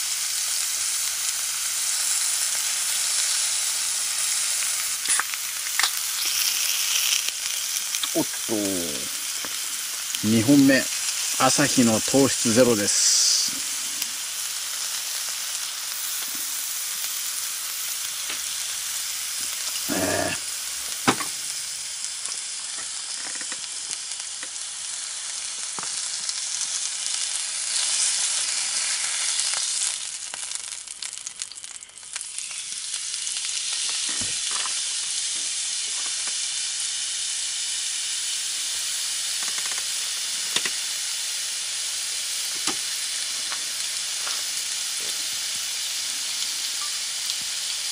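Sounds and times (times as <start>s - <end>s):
meat sizzling on a grill: 0.0s - 47.9s.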